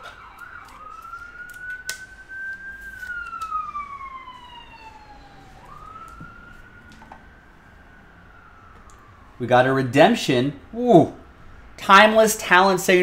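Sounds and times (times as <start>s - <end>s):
emergency vehicle siren wailing: 0.0s - 13.0s.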